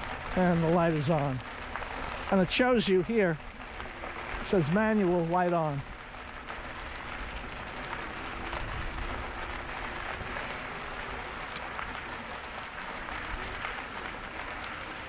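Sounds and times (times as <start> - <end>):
bike tyres rolling on trail: 0.0 - 15.0.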